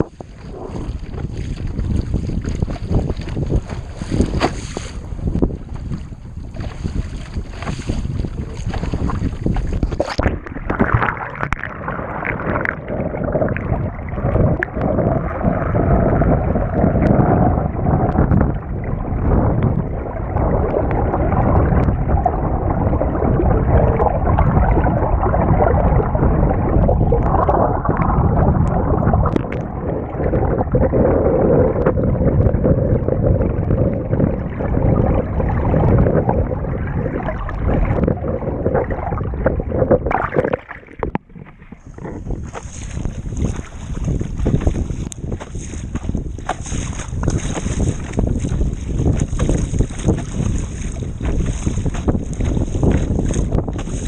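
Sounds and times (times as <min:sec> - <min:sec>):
water rushing against hull: 0:00.0 - 0:54.0
wind buffeting microphone: 0:00.0 - 0:54.0.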